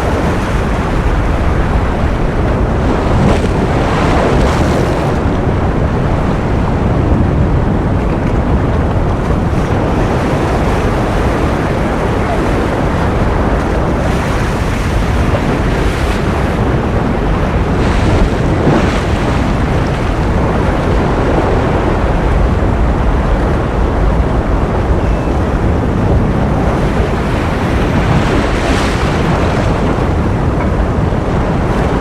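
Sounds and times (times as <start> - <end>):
ocean surf rushing: 0.0 - 32.0.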